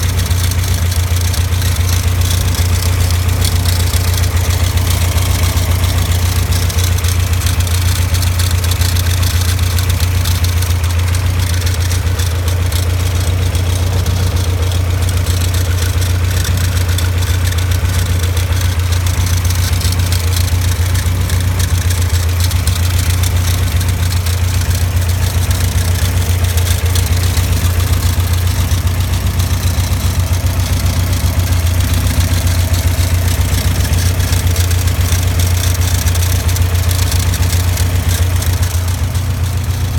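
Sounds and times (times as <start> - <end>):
alternator rattle: 0.0 - 39.9
car engine idling: 0.0 - 39.9.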